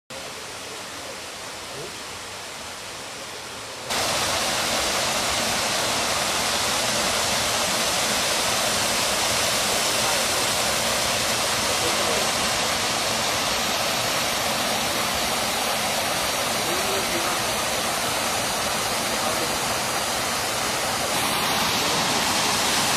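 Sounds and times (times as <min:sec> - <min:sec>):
waterfall pouring into pool: 0:00.1 - 0:22.9.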